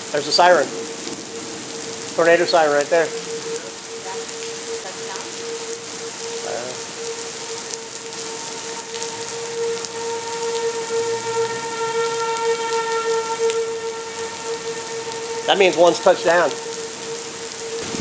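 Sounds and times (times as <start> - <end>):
rain hissing: 0.0 - 18.0
warning siren wailing: 0.0 - 18.0.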